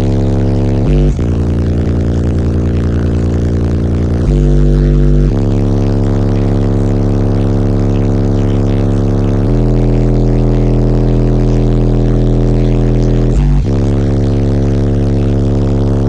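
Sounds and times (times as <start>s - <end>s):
loud bass music from subwoofers: 0.0s - 16.0s.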